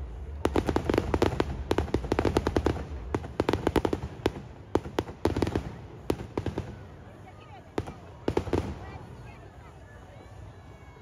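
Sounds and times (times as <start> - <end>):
fireworks cracking and popping: 0.1 - 9.2.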